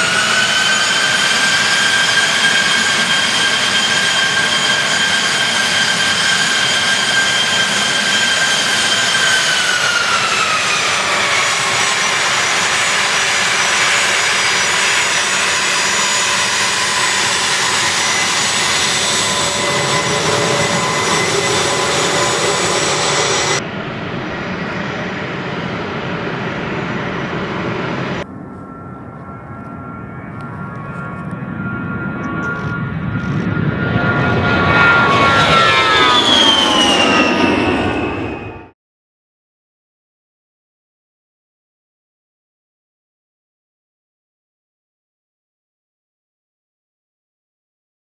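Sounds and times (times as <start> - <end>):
high jet whine: 0.0 - 38.8
jet engines running: 0.0 - 38.8.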